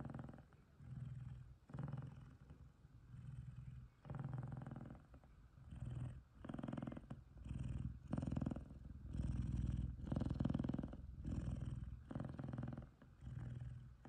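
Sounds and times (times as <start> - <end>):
cat purring loudly: 0.0 - 14.0.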